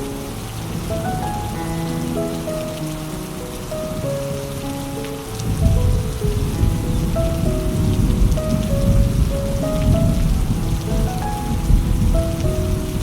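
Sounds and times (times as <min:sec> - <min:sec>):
slow melody of held notes: 0:00.0 - 0:13.0
steady rain falling: 0:00.0 - 0:13.0.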